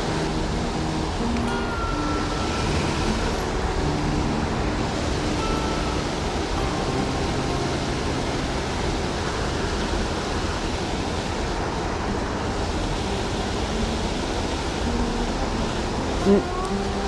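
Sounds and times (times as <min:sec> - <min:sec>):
water rushing over a spillway: 0:00.0 - 0:17.0.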